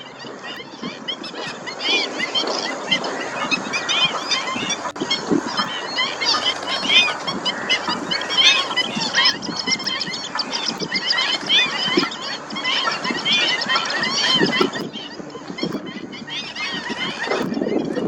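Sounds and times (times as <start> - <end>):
birds yelping calls: 0.0 - 18.0.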